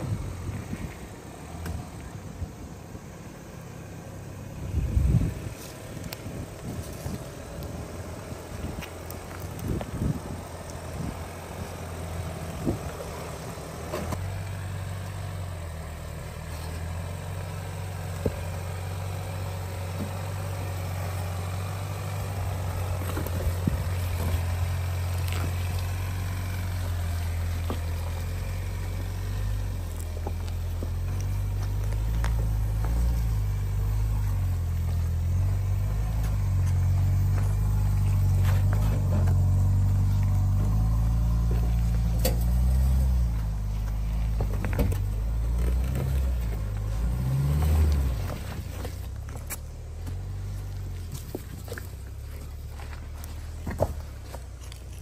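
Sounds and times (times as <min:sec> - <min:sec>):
suv engine at low revs: 0:00.0 - 0:55.0.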